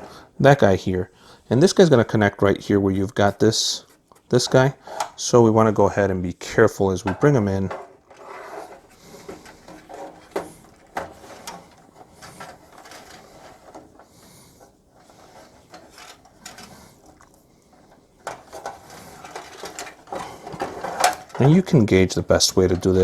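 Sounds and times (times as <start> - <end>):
cables rustling: 0.0 - 23.0.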